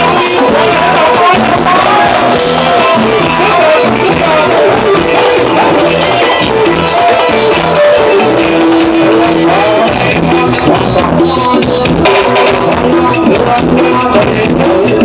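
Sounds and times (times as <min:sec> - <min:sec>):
live dance band playing: 0:00.0 - 0:15.0.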